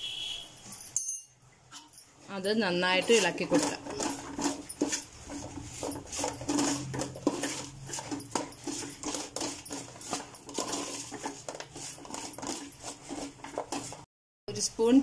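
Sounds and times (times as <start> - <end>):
metal spoon scraping metal pot: 1.7 - 14.1.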